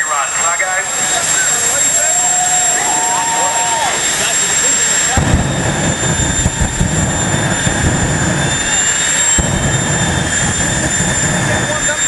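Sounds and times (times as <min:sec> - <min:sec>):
jet engine turbine whine: 0:00.0 - 0:12.0.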